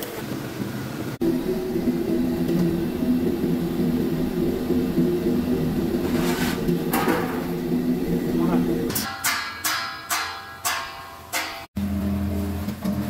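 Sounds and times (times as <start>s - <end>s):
production line machinery humming: 1.1s - 12.2s.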